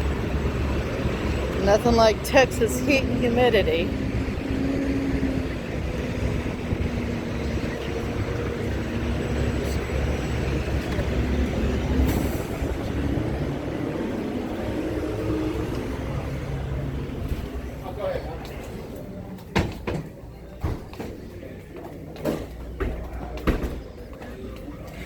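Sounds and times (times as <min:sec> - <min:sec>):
low rumble of heavy vehicle engines: 0:00.0 - 0:25.0.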